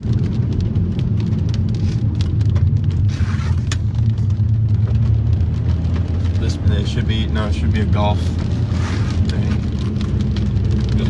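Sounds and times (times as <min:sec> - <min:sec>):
car driving rumble inside cabin: 0:00.0 - 0:11.0
rain tapping on car: 0:00.0 - 0:11.0.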